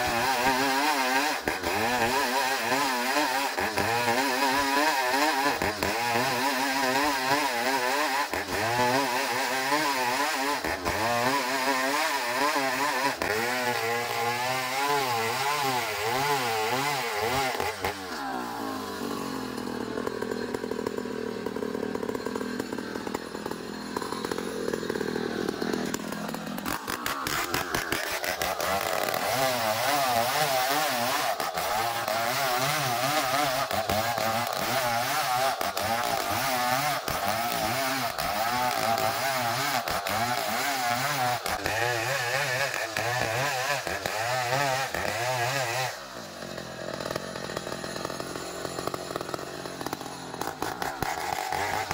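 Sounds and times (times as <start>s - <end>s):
sawmill engine cutting wood: 0.0s - 51.9s.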